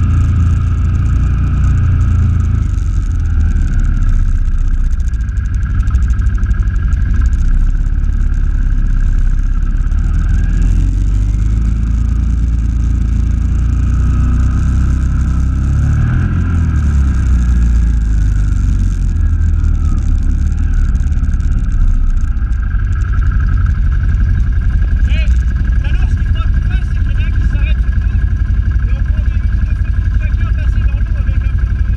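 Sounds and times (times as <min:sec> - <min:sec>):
quad engine running: 0:00.0 - 0:31.9.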